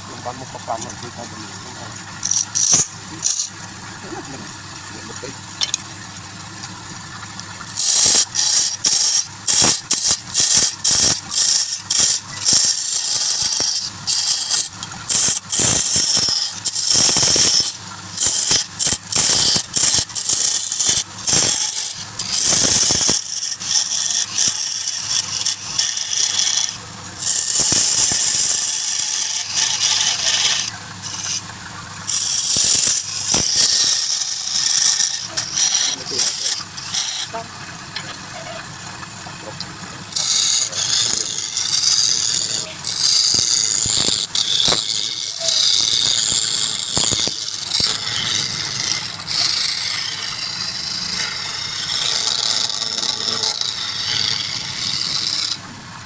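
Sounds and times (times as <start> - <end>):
lathe tool cutting spinning wood: 0.0 - 56.0.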